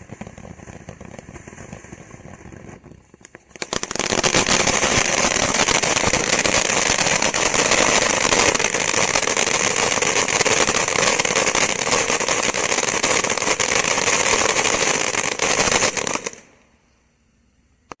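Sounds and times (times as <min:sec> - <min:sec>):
fountain firework hissing and crackling: 0:00.0 - 0:16.6.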